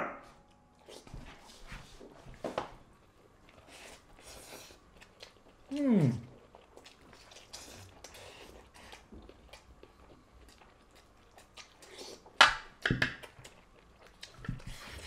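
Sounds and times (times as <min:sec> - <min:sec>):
chewing and mouth smacks: 0:02.2 - 0:15.0.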